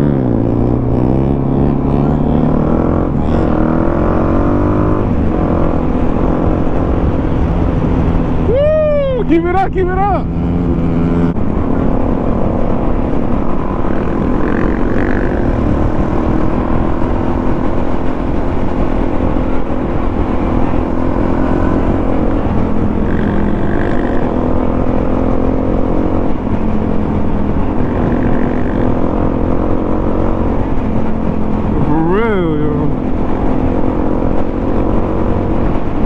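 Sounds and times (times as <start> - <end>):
motorcycle engine running: 0.0 - 8.5, 9.9 - 36.0
wind rumble on microphone: 0.0 - 36.0.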